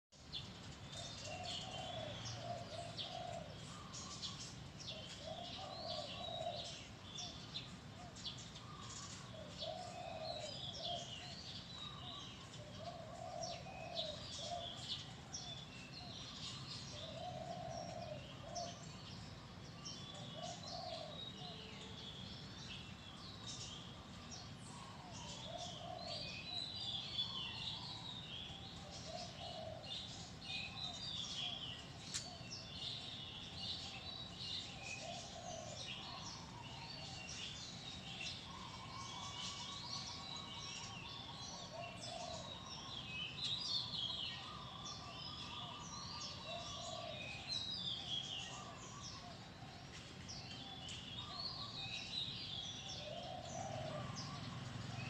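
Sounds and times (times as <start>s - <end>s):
small birds chirping: 0.1s - 55.0s
dove cooing: 0.9s - 19.2s, 19.9s - 22.0s, 23.4s - 43.0s, 44.1s - 52.1s, 52.7s - 55.0s.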